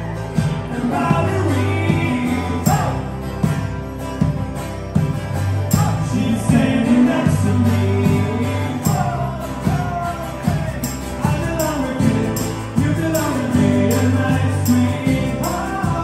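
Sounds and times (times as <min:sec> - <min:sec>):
men singing: 0:00.0 - 0:03.6, 0:05.7 - 0:16.0
acoustic guitar strumming: 0:00.0 - 0:16.0
electric guitar: 0:00.0 - 0:16.0.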